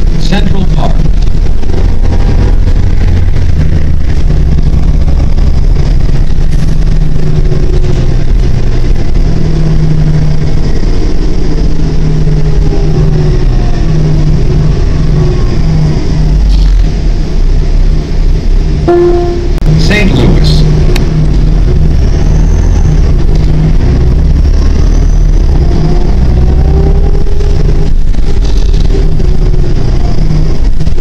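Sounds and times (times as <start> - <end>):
bus engine drone inside cabin: 0.0 - 31.0.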